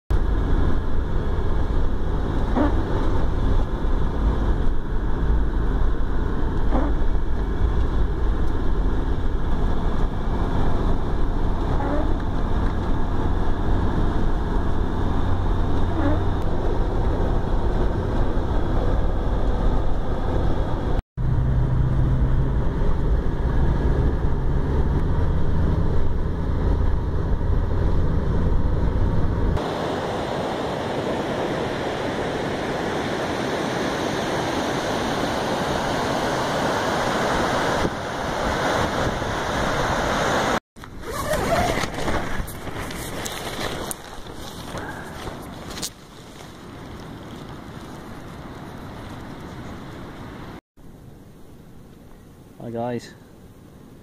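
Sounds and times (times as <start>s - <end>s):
car engine rumble: 0.1s - 33.4s, 34.8s - 52.6s.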